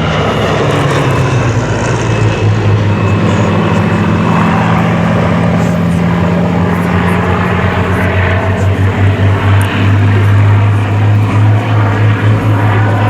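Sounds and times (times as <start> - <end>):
aircraft piston engine drone: 0.0 - 13.0.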